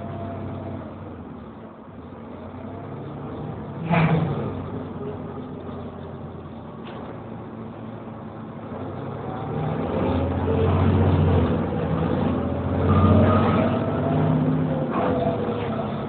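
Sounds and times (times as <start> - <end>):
bus diesel engine accelerating: 0.0 - 16.0.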